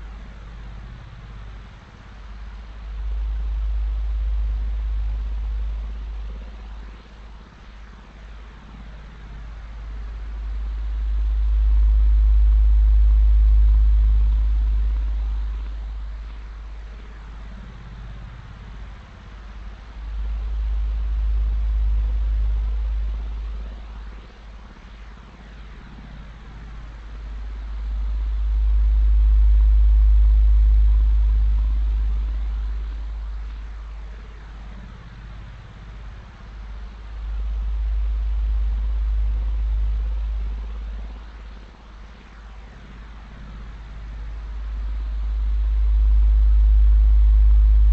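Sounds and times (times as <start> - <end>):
deep low hum: 0.0 - 47.9
deep low rumbling drone: 0.0 - 47.9
faint hiss: 0.0 - 47.9
faint sweeping tones: 0.0 - 47.9.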